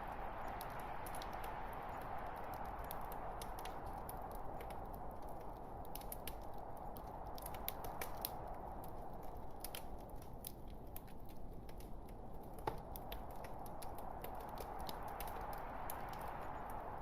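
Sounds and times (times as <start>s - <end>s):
log fire crackling and popping: 0.0s - 17.0s.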